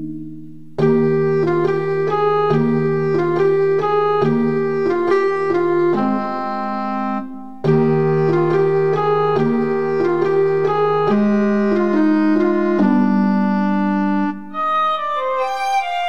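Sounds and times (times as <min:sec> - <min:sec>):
keyboard melody over held chords: 0:00.0 - 0:16.0.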